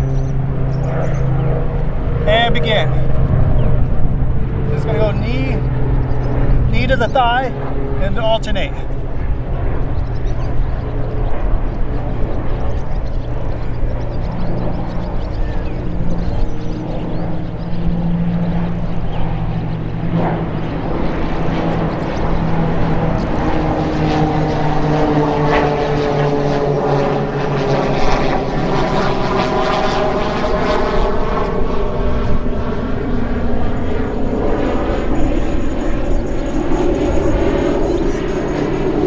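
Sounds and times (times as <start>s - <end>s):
propeller aircraft flying over: 0.0s - 39.0s.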